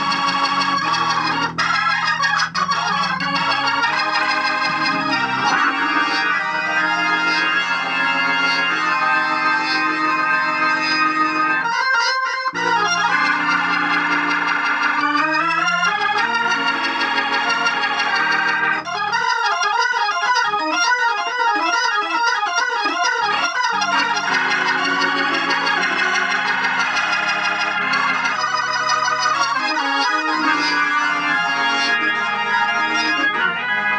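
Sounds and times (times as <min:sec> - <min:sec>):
organ playing chords: 0:00.0 - 0:33.9.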